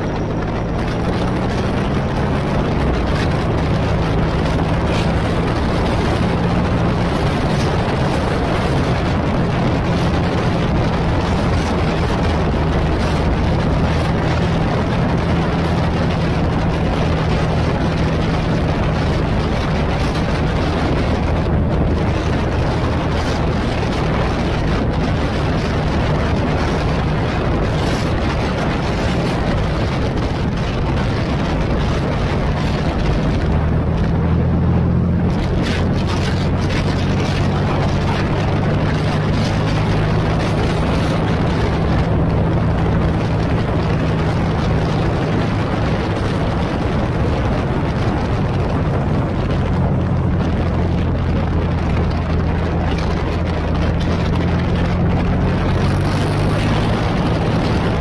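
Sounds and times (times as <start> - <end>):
motorcycle engine humming: 0.0 - 58.0
wind and road noise: 0.0 - 58.0.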